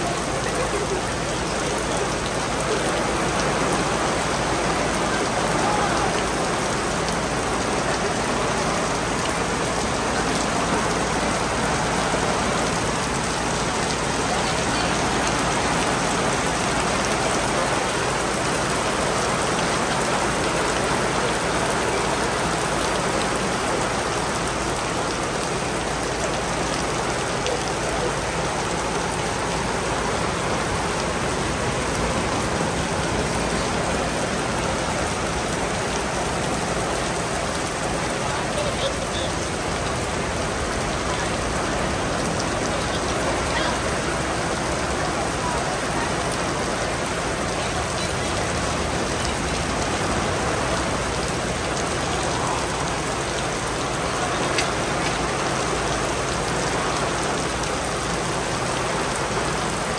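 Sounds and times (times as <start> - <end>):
rain falling on ground: 0.0 - 59.9.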